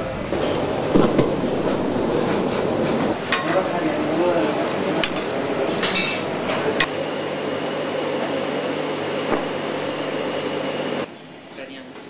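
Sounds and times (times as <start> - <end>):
ventilation fan whirring: 0.0 - 12.0.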